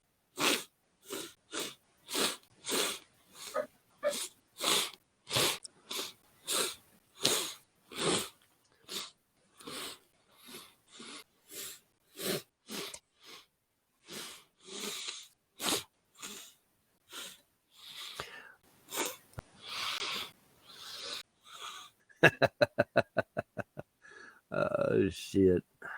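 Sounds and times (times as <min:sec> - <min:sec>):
person sniffling: 0:00.4 - 0:13.5, 0:14.1 - 0:22.0, 0:24.0 - 0:24.4.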